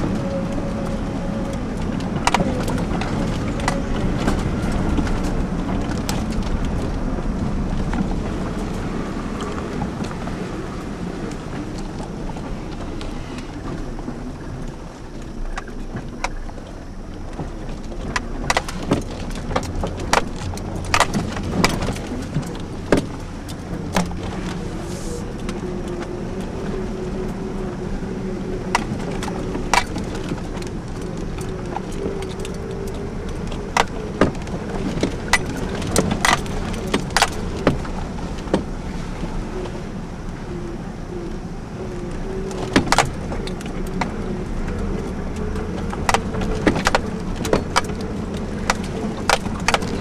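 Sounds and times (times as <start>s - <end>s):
truck knocking and rattling: 0.0s - 12.9s, 13.5s - 26.0s, 28.6s - 38.8s, 42.6s - 50.0s.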